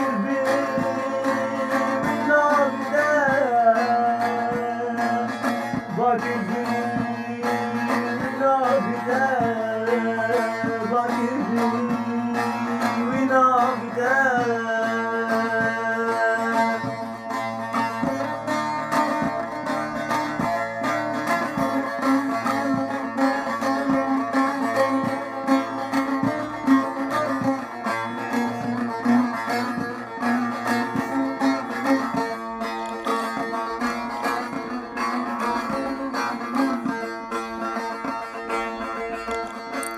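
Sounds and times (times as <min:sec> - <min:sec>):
plucked string instrument: 0:00.0 - 0:39.9.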